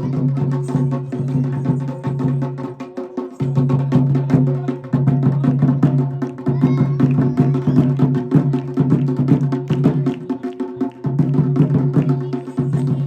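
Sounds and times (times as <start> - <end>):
fast percussion strikes: 0.0 - 13.0.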